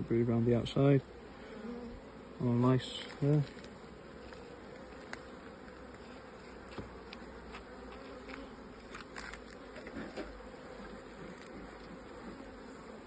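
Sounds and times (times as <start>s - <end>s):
bees humming: 0.0s - 13.0s.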